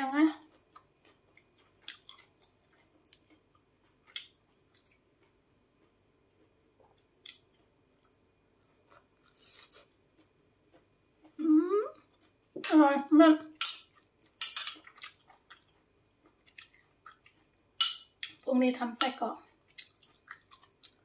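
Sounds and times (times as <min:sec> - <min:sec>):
soft chewing clicks: 0:00.4 - 0:12.6, 0:14.0 - 0:18.4, 0:19.5 - 0:21.0.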